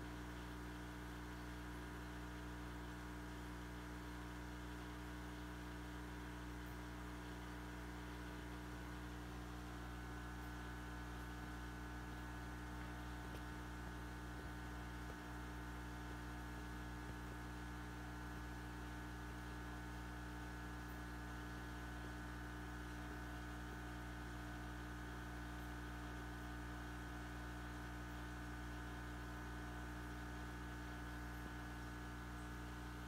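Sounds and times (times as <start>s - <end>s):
aquarium pump hum: 0.0s - 33.0s.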